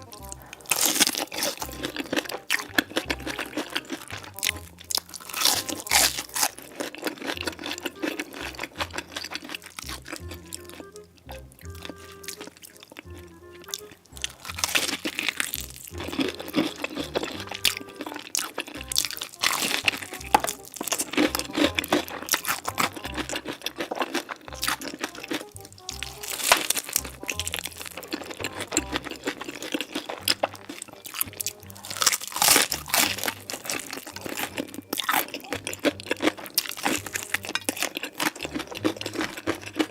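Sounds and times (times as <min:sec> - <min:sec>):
background music: 0:00.0 - 0:39.9
crunching crisp food: 0:00.0 - 0:39.9.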